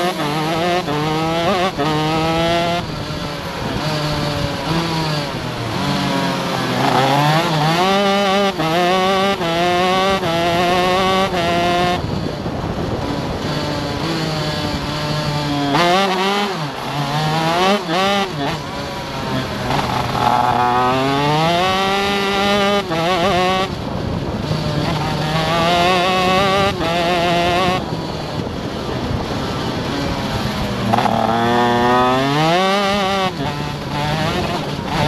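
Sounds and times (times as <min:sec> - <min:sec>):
kart engine revving: 0:00.0 - 0:35.0.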